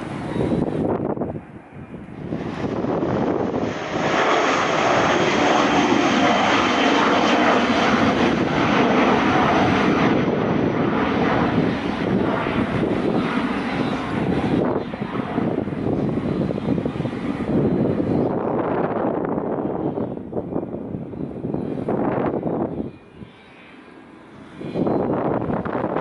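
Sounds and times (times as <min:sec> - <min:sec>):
airliner engines at takeoff: 0:00.0 - 0:26.0.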